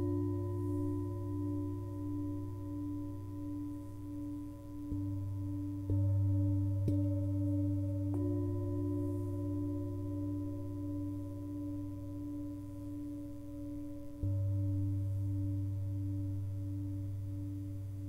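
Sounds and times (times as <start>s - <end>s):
singing bowls struck with mallet: 0.0s - 17.7s
long pulsing bowl ring: 0.0s - 18.0s.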